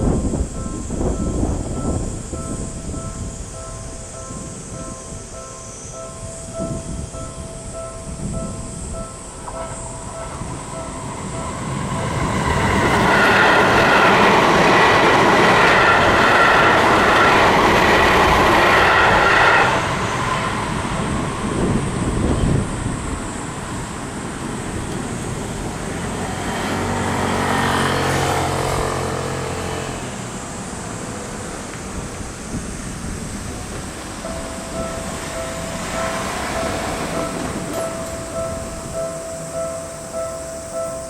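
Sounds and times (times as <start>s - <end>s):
level crossing warning bell: 0.0s - 30.7s, 33.5s - 41.0s
train wheels rushing on rail: 0.0s - 41.0s
high wheel squeal: 0.1s - 41.0s.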